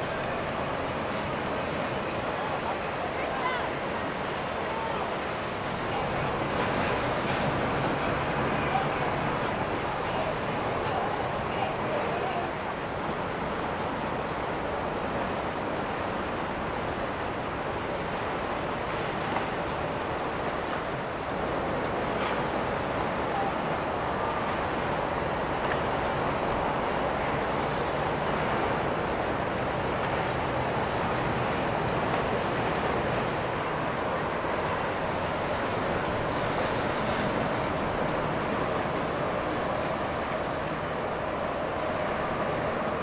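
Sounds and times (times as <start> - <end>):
water rushing: 0.0 - 43.0
wind: 0.0 - 43.0.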